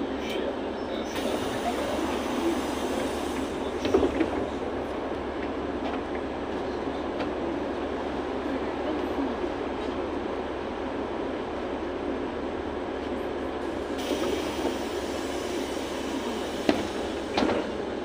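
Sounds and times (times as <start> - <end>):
bus engine and cabin noise: 0.0 - 18.0.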